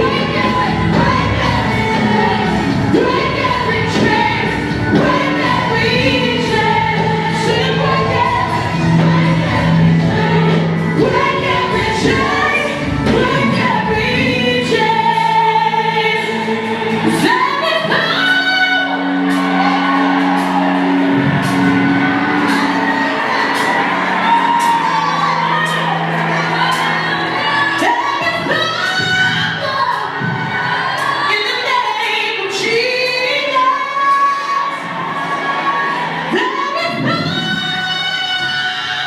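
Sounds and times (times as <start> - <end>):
gospel choir singing with band: 0.0 - 39.0.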